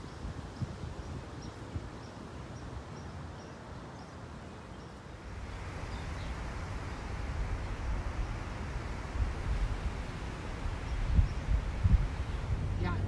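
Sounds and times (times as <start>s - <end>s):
wind buffeting microphone: 0.0s - 4.0s, 5.3s - 13.0s
wind rustling foliage: 0.0s - 13.0s.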